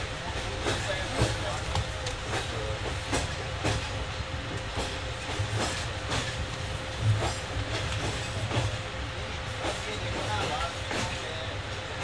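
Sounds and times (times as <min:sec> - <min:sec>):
low train rumble: 0:00.0 - 0:12.0
train wheels clacking: 0:00.0 - 0:12.0.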